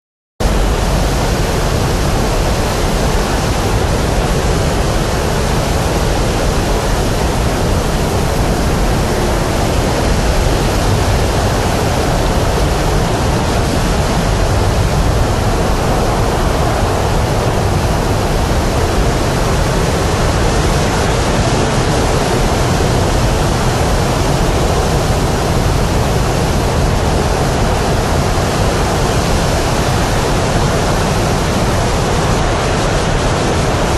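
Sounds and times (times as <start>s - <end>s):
rushing air: 0.4s - 33.9s.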